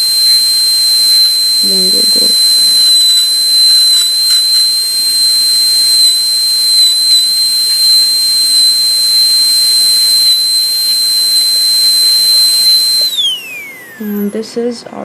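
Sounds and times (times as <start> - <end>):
dental drill whining: 0.0 - 15.0.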